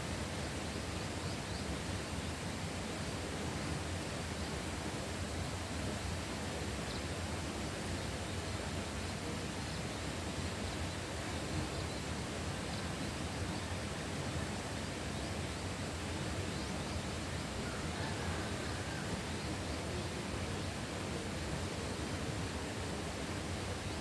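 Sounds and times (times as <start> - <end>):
rushing hiss of countryside ambience: 0.0 - 24.0.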